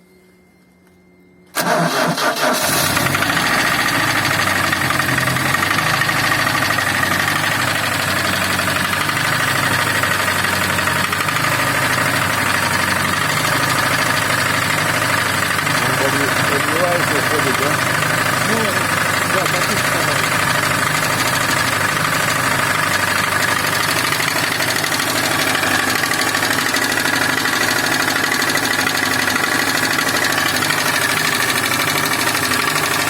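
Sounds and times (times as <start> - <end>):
van engine starting and idling: 1.5 - 33.0
engine knock: 2.6 - 33.0.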